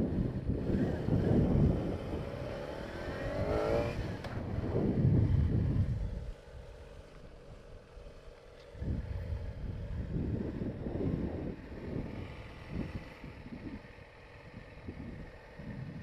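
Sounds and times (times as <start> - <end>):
wind buffeting microphone: 0.0 - 6.8, 8.7 - 16.0.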